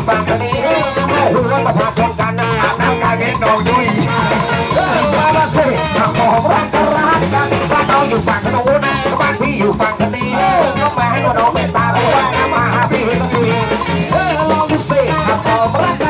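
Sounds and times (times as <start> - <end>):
live ska band playing: 0.0 - 16.0.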